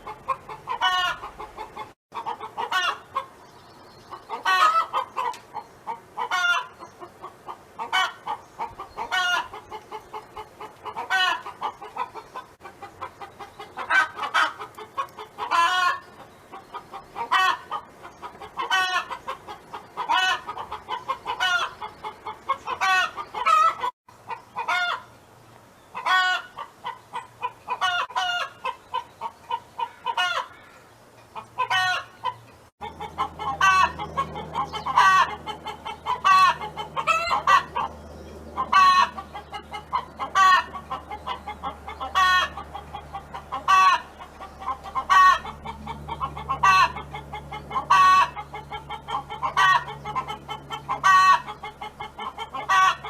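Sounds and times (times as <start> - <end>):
hen clucking: 0.0 - 25.1, 25.9 - 53.0.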